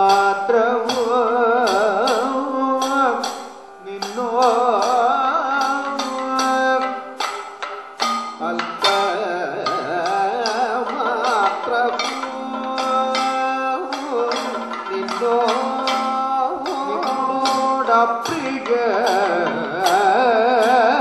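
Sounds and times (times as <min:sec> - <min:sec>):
man singing ornamented melody: 0:00.0 - 0:21.0
sharp drum strokes: 0:00.0 - 0:21.0.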